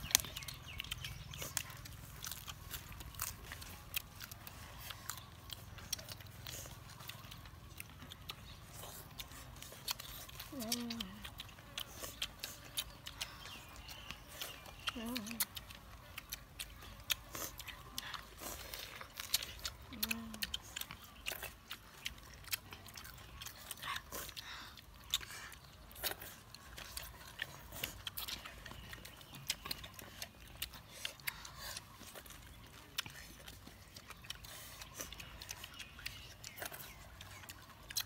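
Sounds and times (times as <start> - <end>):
people chewing and crunching food: 0.0 - 38.0.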